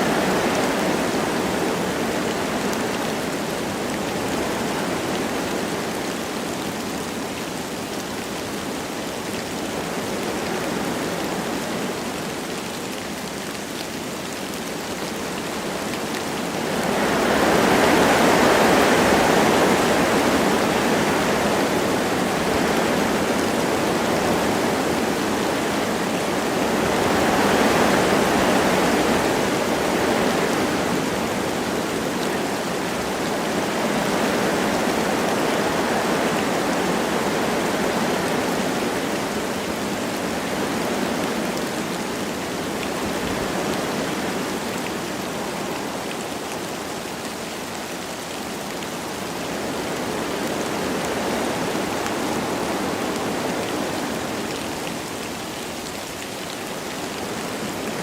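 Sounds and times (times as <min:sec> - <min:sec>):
light rain falling: 0:00.0 - 0:58.0
wind gusting through trees: 0:00.0 - 0:58.0.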